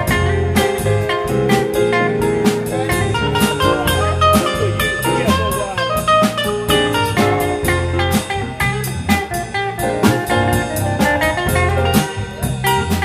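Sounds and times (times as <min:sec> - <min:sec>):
drum kit steady beat: 0:00.0 - 0:13.0
electric bass: 0:00.0 - 0:13.0
keyboards: 0:00.0 - 0:13.0.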